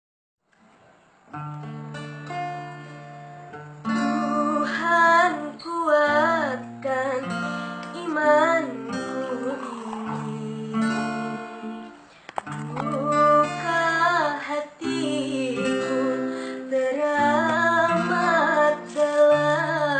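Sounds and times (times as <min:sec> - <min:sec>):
woman singing: 0:03.9 - 0:19.9.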